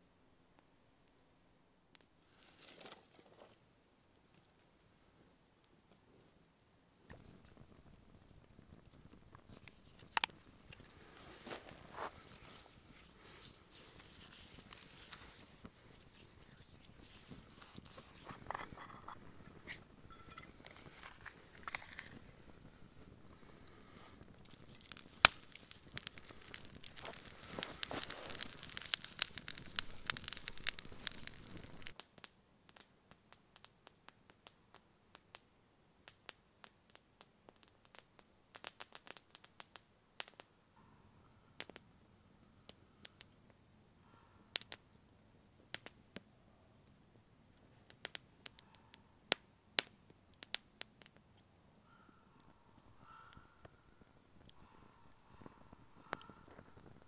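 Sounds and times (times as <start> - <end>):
campfire crackling: 1.9 - 57.0.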